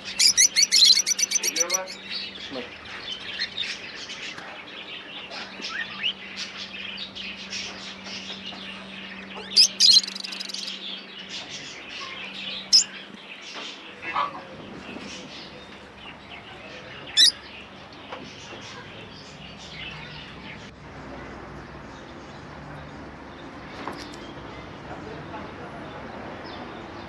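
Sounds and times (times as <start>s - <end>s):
loud sharp bird calls: 0.0s - 25.3s
birds chirping: 0.0s - 27.0s.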